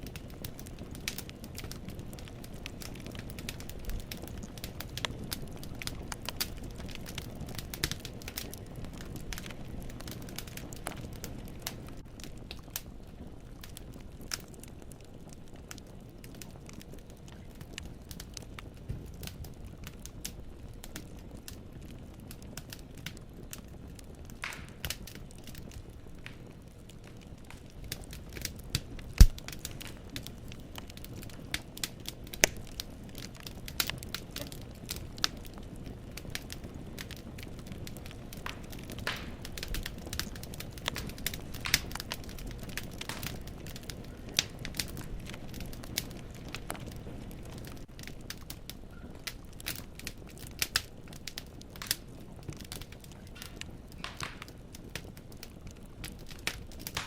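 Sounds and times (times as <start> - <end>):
burning logs popping: 0.0 - 57.0
low hiss of fire: 0.0 - 57.0
low rumble of flames: 0.0 - 57.0
wood fire crackling: 0.0 - 57.0.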